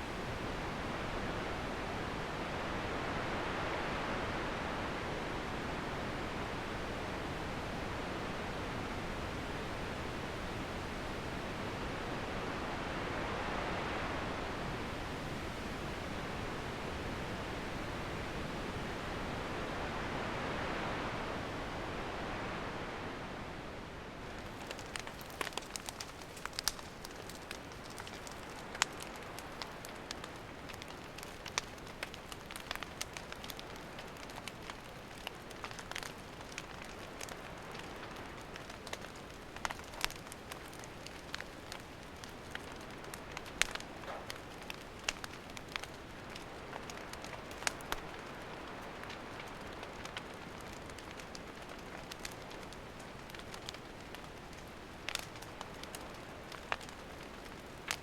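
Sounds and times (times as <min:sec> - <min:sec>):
campfire crackling and popping: 0:00.0 - 0:20.2, 0:24.2 - 0:58.0.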